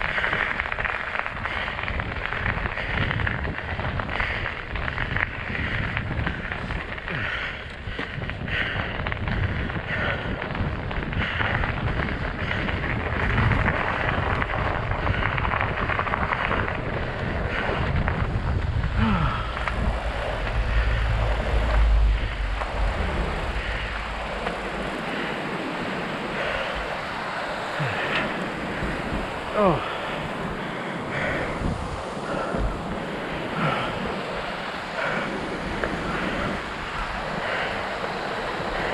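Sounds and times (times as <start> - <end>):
bike tyres rolling on snow: 0.0 - 38.9
wind buffeting microphone: 0.0 - 38.9.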